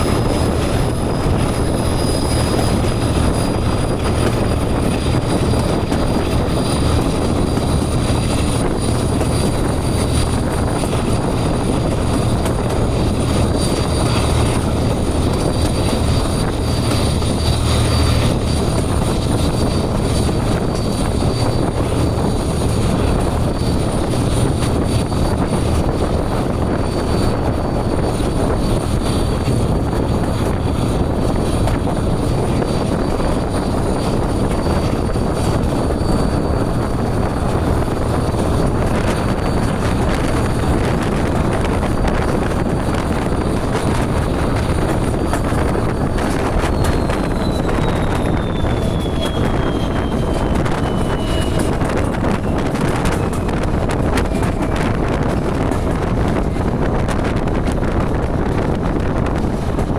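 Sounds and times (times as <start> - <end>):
diesel locomotive engine throbbing: 0.0 - 59.9
high whine: 0.0 - 59.9.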